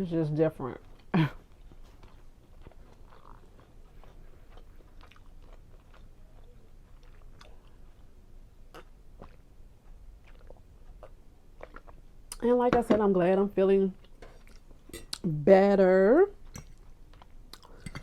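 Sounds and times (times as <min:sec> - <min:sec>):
person chewing food: 0:00.8 - 0:12.4, 0:14.0 - 0:15.3, 0:16.4 - 0:18.0.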